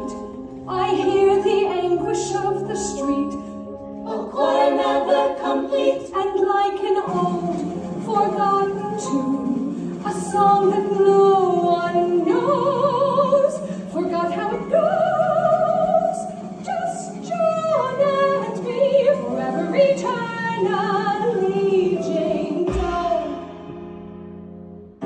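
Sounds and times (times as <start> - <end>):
soprano singing operatic notes: 0.0 - 23.6
sustained accompaniment: 0.0 - 24.8.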